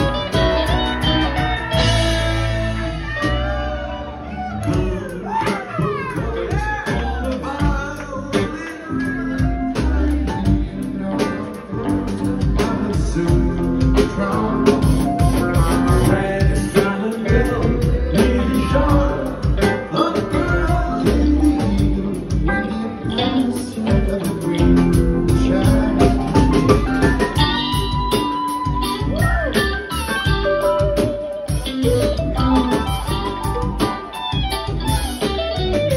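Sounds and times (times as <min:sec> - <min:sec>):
bass guitar: 0:00.0 - 0:35.9
drum kit: 0:00.0 - 0:35.9
electric guitars: 0:00.0 - 0:35.9.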